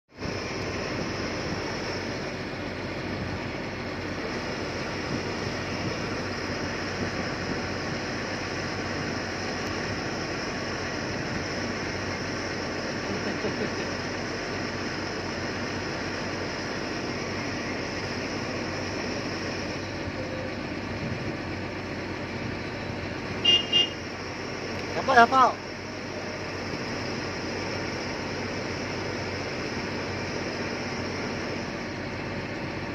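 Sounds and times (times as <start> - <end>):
excavator diesel engine drone: 0.1 - 32.9.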